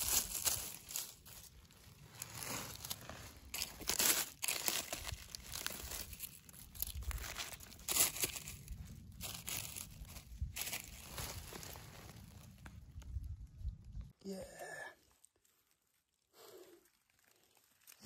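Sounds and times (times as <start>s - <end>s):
dry leaves crackling underfoot: 0.0s - 13.5s, 15.1s - 18.0s.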